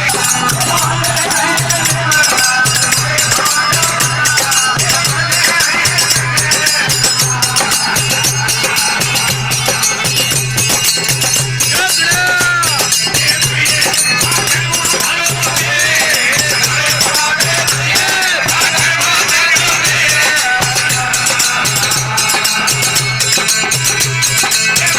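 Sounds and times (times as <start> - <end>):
jingling percussion: 0.0 - 24.9
pulsing drum beat: 0.0 - 24.9.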